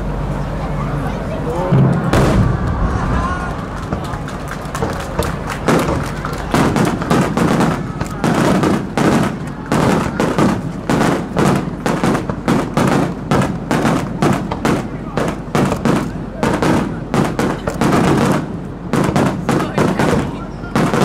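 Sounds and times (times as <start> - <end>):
fireworks bursting with echoes: 1.7 - 21.0.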